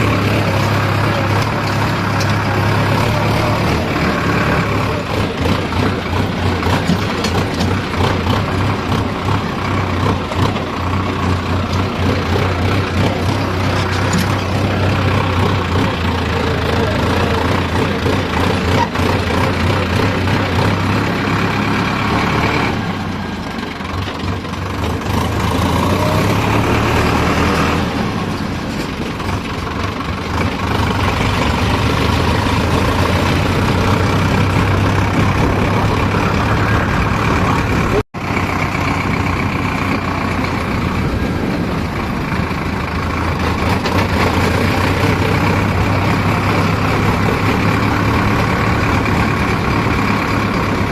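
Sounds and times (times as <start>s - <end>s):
backhoe diesel engine running: 0.0s - 50.9s.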